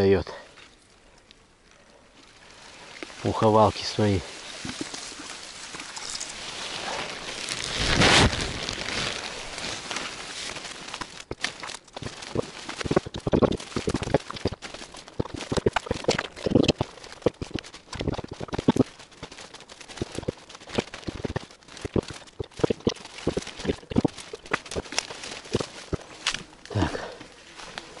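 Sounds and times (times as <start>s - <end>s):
leaves brushing and crackling: 2.2s - 28.0s
footsteps through tall grass: 2.5s - 28.0s.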